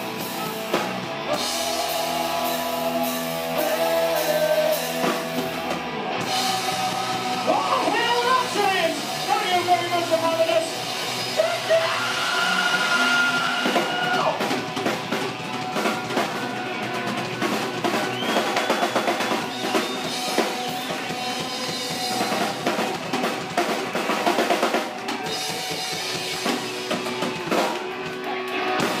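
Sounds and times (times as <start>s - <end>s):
electric guitars: 0.0s - 29.0s
rock band playing live: 0.0s - 29.0s.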